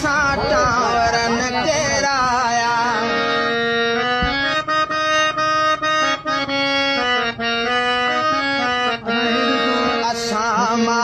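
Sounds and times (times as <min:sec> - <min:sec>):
free-reed keyboard melody: 0:00.0 - 0:11.0.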